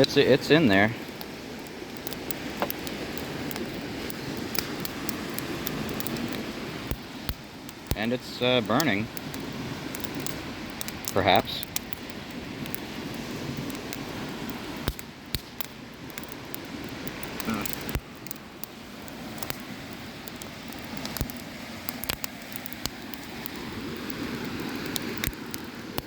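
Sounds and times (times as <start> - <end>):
crackles and pops of fire: 0.0 - 26.0
fire burning plastic: 0.0 - 26.0.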